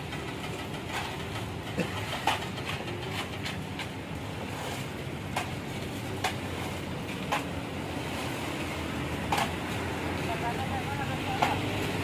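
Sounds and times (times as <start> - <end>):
concrete mixer truck running: 0.0 - 12.0.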